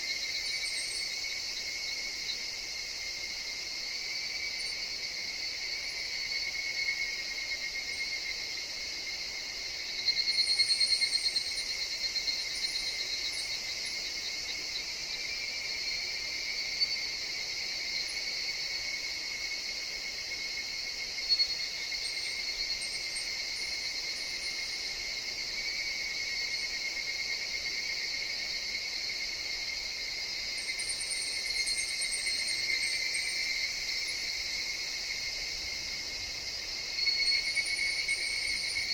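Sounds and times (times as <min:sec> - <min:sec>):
insects droning: 0:00.0 - 0:38.9
short high insect calls: 0:00.0 - 0:38.9.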